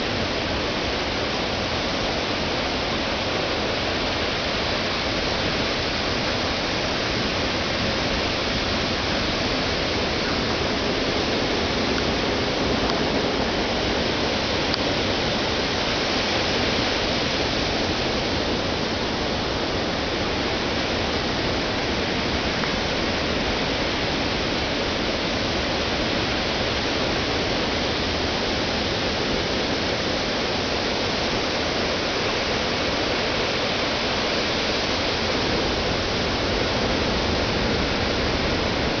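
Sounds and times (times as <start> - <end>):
ocean surf on beach: 0.0 - 39.0.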